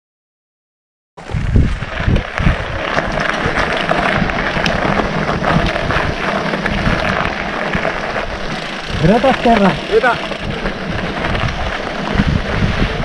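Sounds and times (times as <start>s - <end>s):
rattling crunching noise: 1.2s - 13.0s
wind buffeting microphone: 1.2s - 13.0s.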